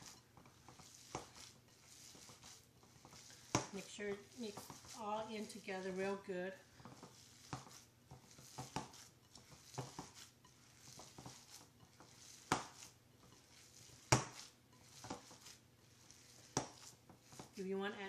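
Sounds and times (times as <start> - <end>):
squishing stuffing in a bowl: 0.0 - 18.0.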